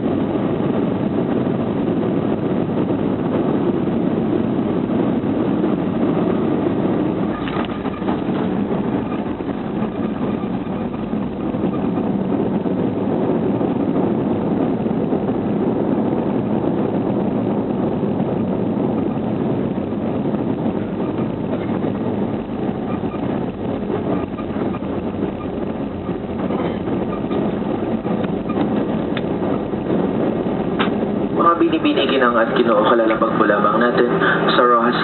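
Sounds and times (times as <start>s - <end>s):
airplane cabin engine rush: 0.0s - 35.0s.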